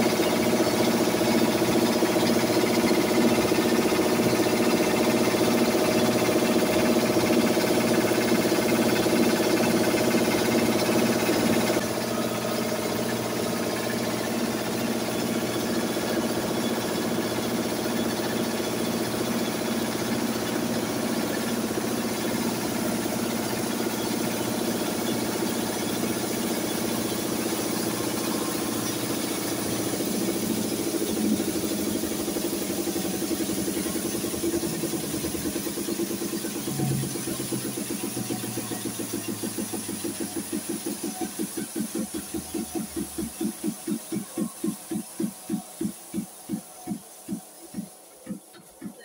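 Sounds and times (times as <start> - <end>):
hammer mill grinding maize: 0.0 - 49.0.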